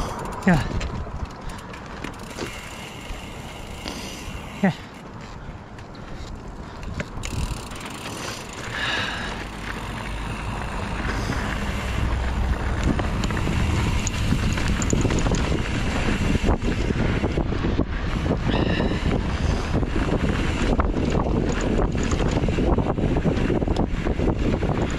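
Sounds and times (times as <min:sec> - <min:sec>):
wind buffeting microphone: 0:00.0 - 0:04.6, 0:05.5 - 0:24.9
bike rattling over rough trail: 0:00.0 - 0:24.9.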